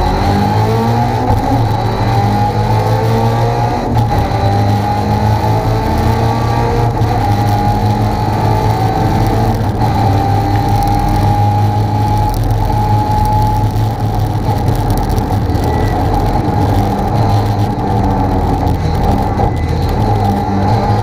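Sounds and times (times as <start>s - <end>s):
rally car engine running: 0.0s - 21.0s.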